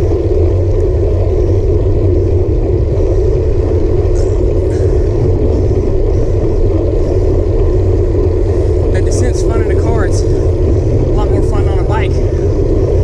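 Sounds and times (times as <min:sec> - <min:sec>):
bike tyres on asphalt: 0:00.0 - 0:13.0
wind rumble on microphone: 0:00.0 - 0:13.0.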